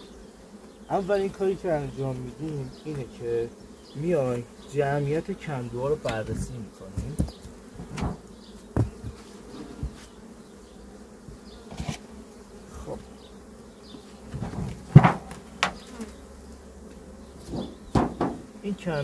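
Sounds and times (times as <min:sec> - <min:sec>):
bees buzzing: 0:00.0 - 0:19.0
knocks and thumps of hive: 0:00.0 - 0:19.0.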